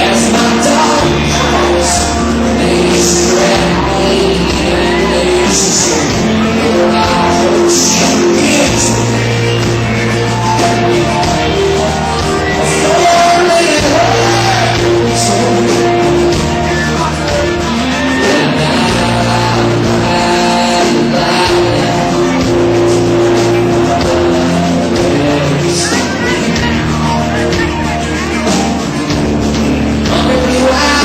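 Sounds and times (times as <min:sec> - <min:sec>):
bending lead guitar notes: 0:00.0 - 0:31.0
country rock band playing: 0:00.0 - 0:31.0.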